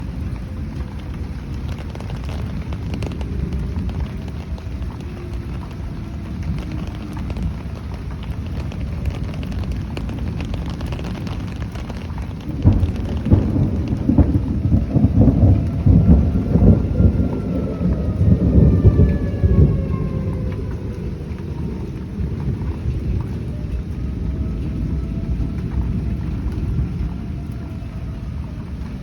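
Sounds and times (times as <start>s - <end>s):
distant warning siren wailing: 0.0s - 29.0s
wind and rain rumbling: 0.0s - 29.0s.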